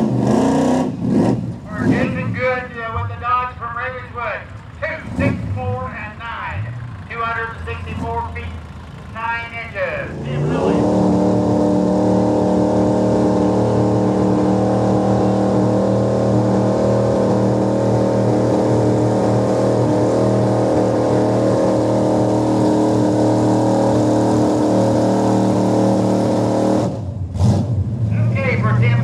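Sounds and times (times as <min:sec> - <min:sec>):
pickup truck engine running hard: 0:00.0 - 0:29.0.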